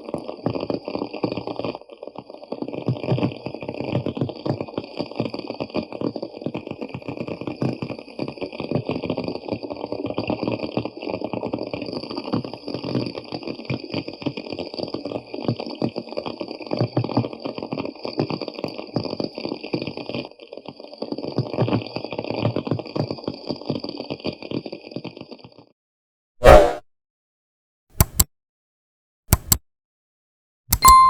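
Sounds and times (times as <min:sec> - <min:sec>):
crabs clicking and bubbling: 0:00.0 - 0:25.7.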